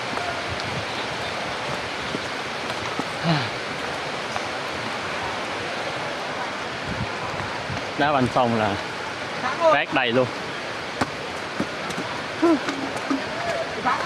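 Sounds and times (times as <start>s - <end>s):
heavy rain on concrete and plastic: 0.0s - 14.0s.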